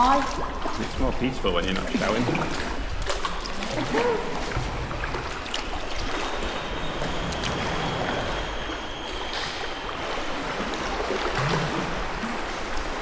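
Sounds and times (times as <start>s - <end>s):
paddle splashes: 0.0s - 13.0s
water drips: 0.0s - 13.0s
water sloshing and lapping: 0.0s - 13.0s.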